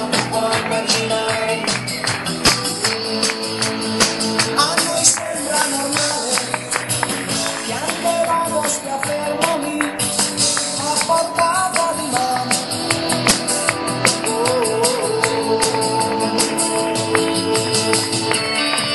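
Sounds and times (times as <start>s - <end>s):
man singing into a microphone: 0.0s - 18.3s
acoustic guitar: 0.0s - 18.9s.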